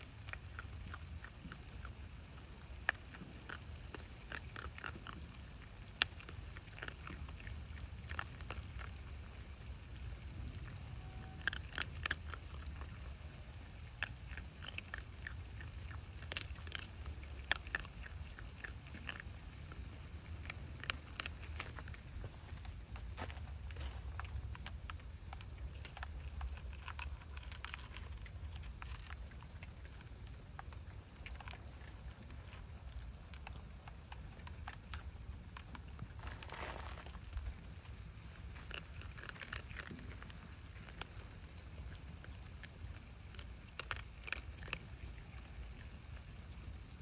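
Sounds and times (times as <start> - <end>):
animals crunching dry kibble: 0.0 - 47.0.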